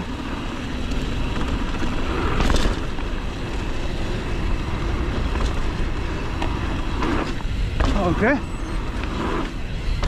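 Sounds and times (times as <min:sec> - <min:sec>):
bike rattling: 0:00.0 - 0:10.0
tyres rolling on dirt: 0:00.0 - 0:10.0.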